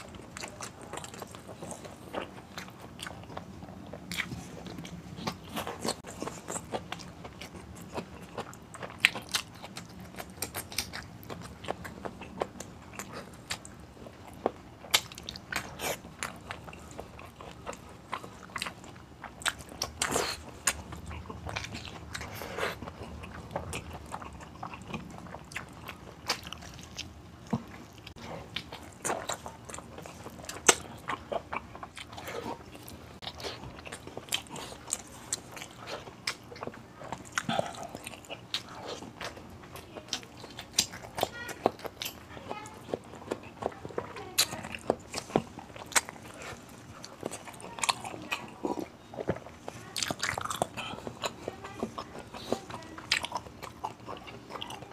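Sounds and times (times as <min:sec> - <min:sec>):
person chewing and lip-smacking: 0:00.0 - 0:54.9.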